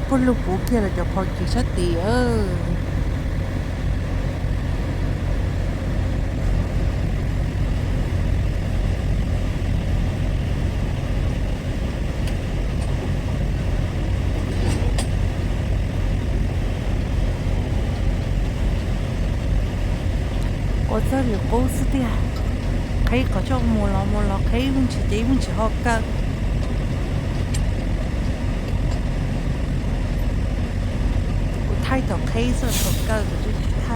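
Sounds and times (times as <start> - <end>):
truck engine and road rumble: 0.0 - 33.9.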